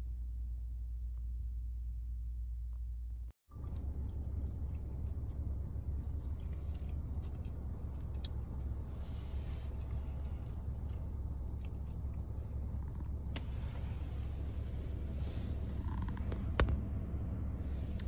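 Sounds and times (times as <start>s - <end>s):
car engine idling: 3.5s - 18.0s.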